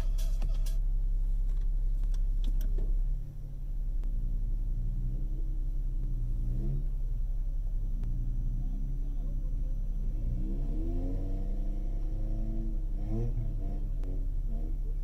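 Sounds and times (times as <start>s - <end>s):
vehicle engine rumbling and revving: 0.0s - 15.0s.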